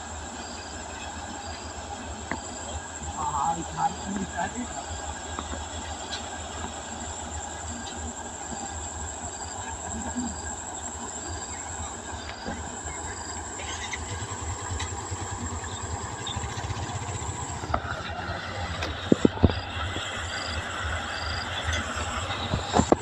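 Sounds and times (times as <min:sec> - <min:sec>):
combine harvester engine rumble: 0:00.0 - 0:23.0
high whine: 0:00.0 - 0:23.0.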